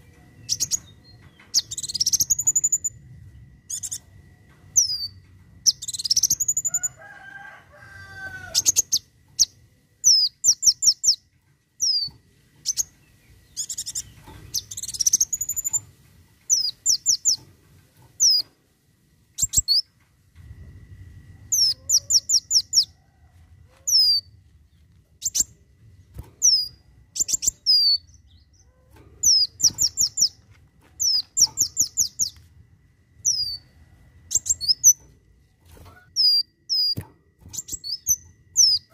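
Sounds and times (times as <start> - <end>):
sunbird singing: 0.0 - 7.0, 8.0 - 17.4, 18.2 - 18.4, 19.4 - 20.0, 21.4 - 23.0, 23.7 - 25.7, 26.4 - 32.5, 33.2 - 35.2, 35.9 - 38.9.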